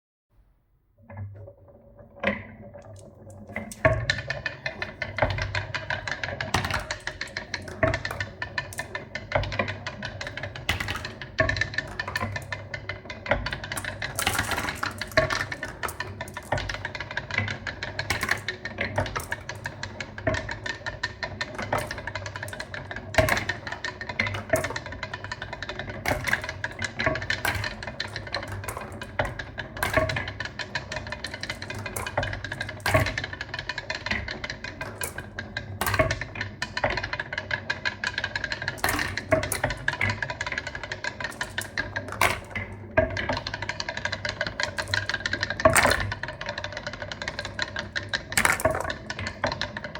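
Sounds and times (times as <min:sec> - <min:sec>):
marbles clacking on plastic track: 0:02.3 - 0:49.9.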